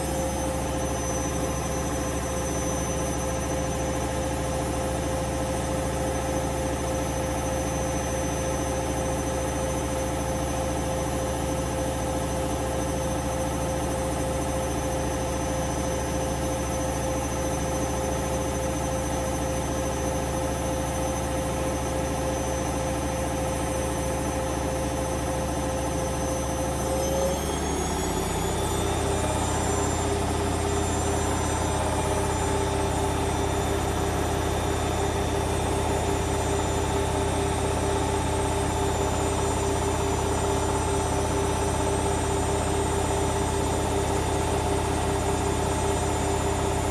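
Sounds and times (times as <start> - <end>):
washing machine drum motor whine: 0.0 - 46.9.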